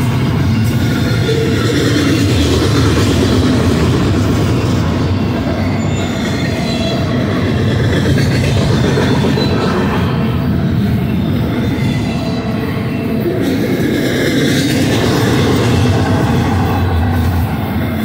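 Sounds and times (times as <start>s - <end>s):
faint high wheel squeals: 0.0s - 18.0s
train wheels rumbling and rattling: 0.0s - 18.0s.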